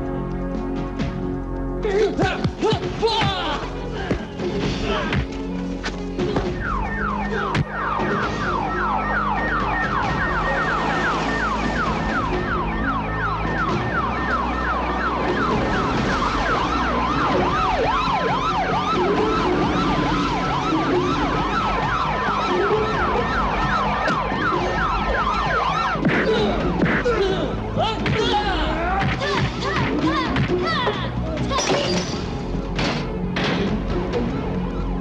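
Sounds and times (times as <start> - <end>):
police and ambulance sirens: 2.4 - 35.0.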